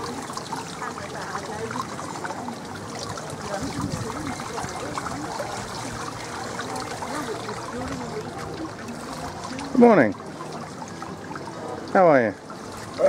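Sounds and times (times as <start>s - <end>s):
faint voices: 0.0s - 13.0s
water trickling: 0.0s - 13.0s.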